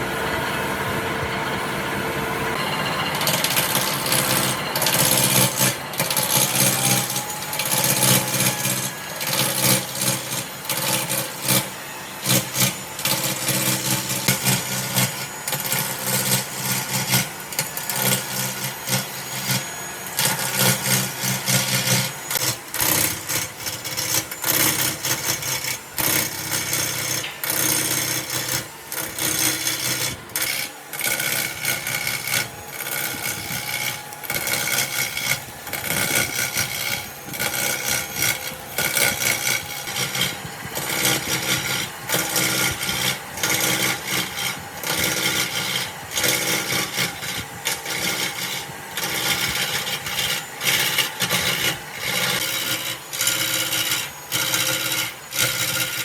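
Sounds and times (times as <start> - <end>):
power tool motor hum: 2.5 - 56.0
tool cutting wood: 2.5 - 56.0.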